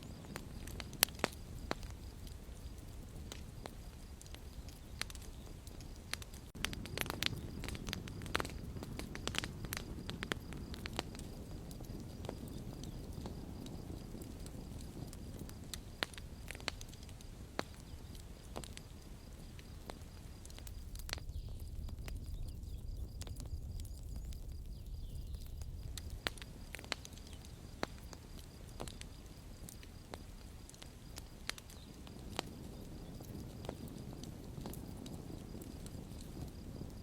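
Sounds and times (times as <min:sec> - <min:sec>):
campfire flames rumbling: 0:00.0 - 0:37.0
fire crackles and pops: 0:00.0 - 0:37.0.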